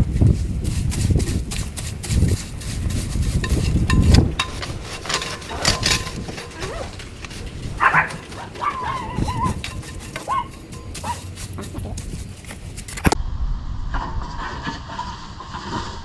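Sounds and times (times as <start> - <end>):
scraping and rubbing tray: 0.0 - 13.2.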